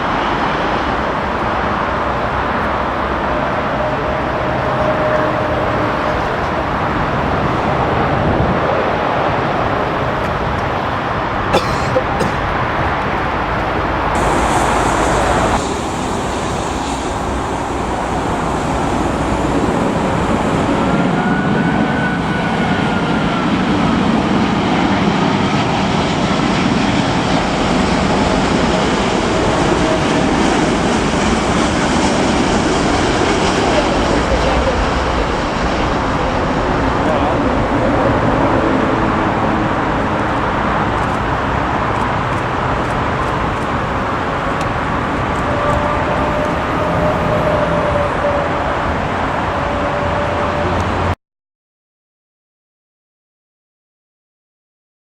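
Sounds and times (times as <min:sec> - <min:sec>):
jet aircraft rumble: 0:00.0 - 0:51.2
strong wind roaring: 0:00.0 - 0:51.2.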